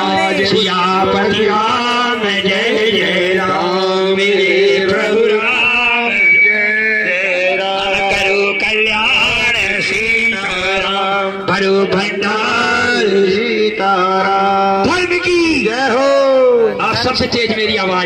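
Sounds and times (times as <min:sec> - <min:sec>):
devotional song singing: 0:00.0 - 0:18.0.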